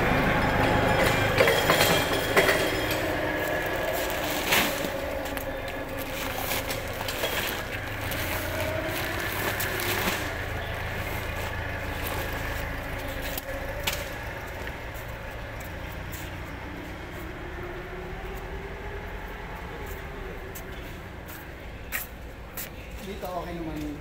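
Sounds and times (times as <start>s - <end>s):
machinery rumbling: 0.0s - 24.0s.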